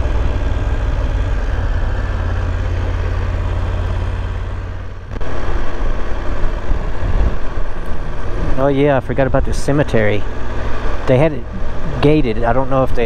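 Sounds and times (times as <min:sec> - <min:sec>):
motorcycle engine rumble: 0:00.0 - 0:13.0.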